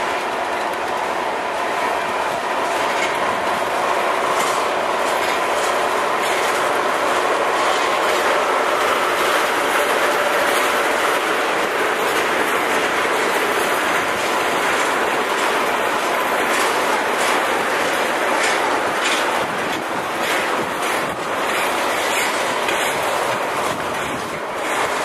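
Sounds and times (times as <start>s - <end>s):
clickety-clack over rail joints: 0.0s - 25.0s
train wheels rumbling on rail: 0.0s - 25.0s.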